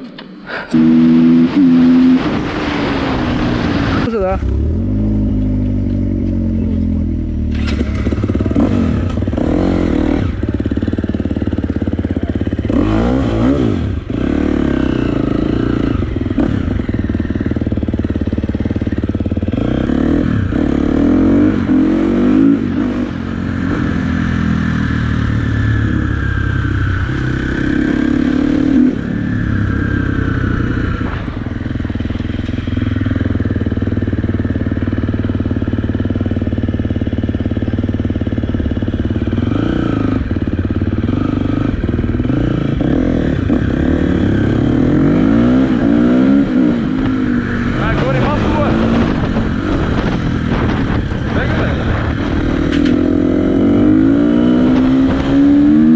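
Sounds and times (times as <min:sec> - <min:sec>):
dirt bike engine revving: 0:00.5 - 0:06.0, 0:07.3 - 0:55.9.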